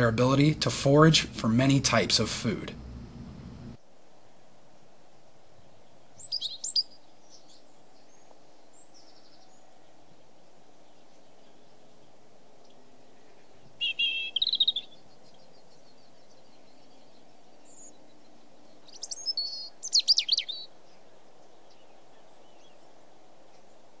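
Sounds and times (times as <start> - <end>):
songbird singing: 0.0 - 3.9, 5.1 - 24.0
low background noise: 0.0 - 24.0.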